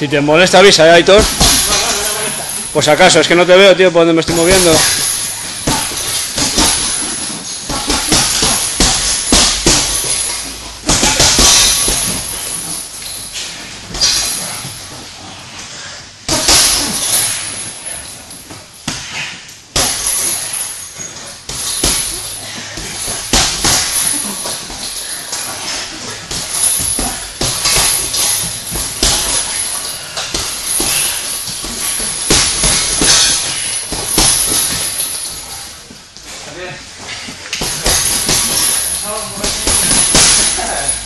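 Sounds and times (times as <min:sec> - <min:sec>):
bodies rustling on mats: 0:04.3 - 0:41.0.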